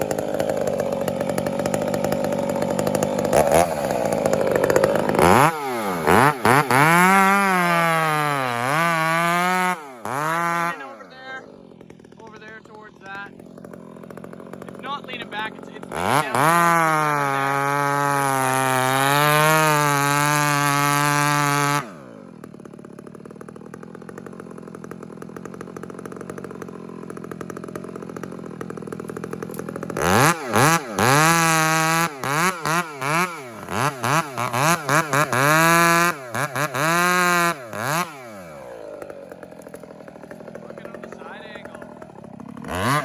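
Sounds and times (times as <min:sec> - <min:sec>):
chainsaw revving and idling: 0:00.0 - 0:43.0.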